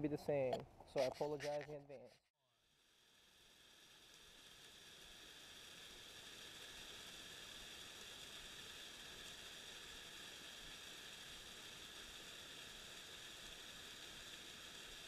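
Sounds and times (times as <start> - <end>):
faint steady hiss: 0.0 - 2.2, 2.8 - 15.0.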